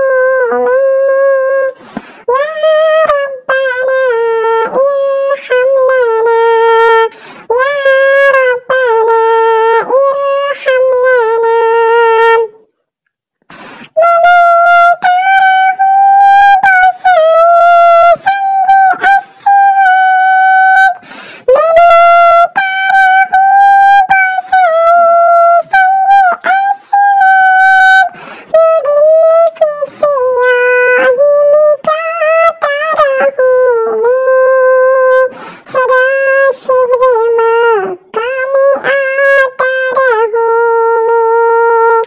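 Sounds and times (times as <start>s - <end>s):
person singing devotional song: 0.0s - 12.8s, 13.4s - 42.0s.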